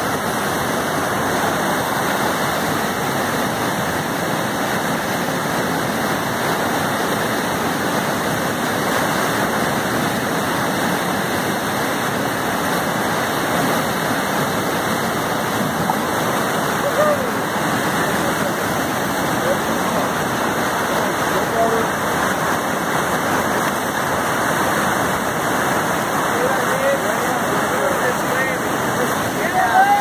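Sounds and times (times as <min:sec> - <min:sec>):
whitewater rushing over boulders: 0:00.0 - 0:30.0.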